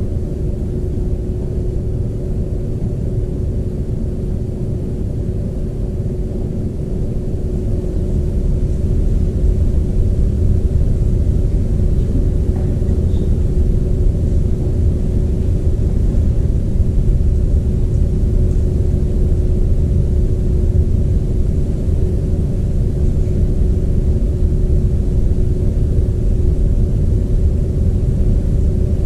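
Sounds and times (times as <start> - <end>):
constant hum: 0.0 - 29.0
steady low rumble: 0.0 - 29.0.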